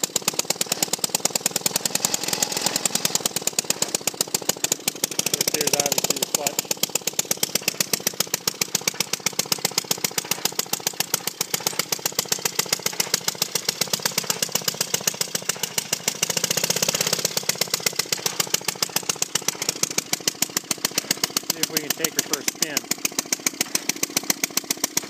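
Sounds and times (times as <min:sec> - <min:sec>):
two-stroke engine popping: 0:00.0 - 0:25.0.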